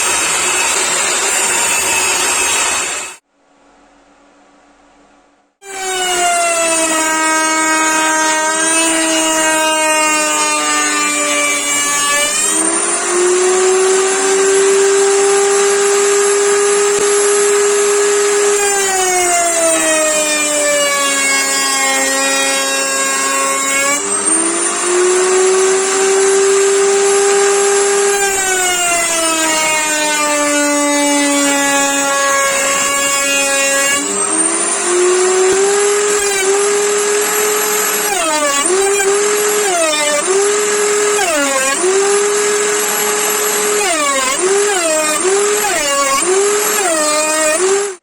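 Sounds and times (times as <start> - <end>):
power tool motor whining: 5.6 - 48.0.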